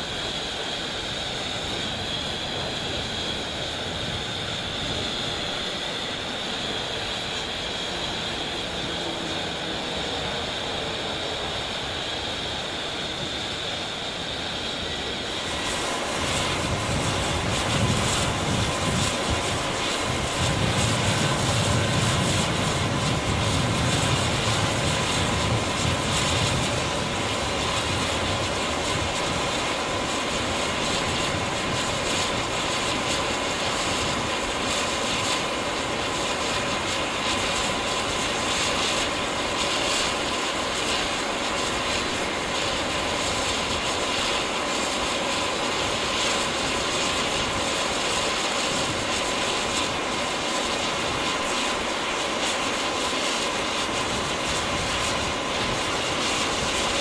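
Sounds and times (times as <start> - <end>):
jet turbine whine and hiss: 0.0 - 57.0.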